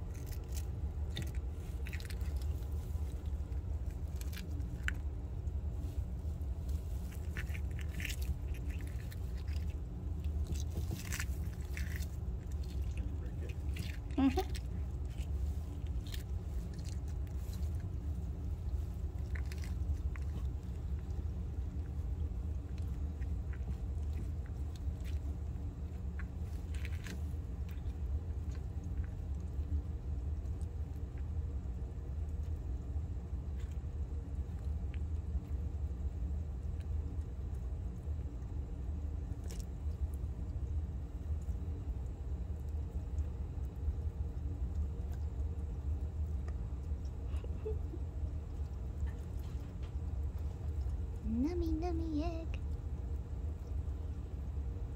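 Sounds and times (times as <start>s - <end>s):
lizard chewing eggshell crunches: 0.0s - 51.3s
steady low hum: 0.0s - 54.9s.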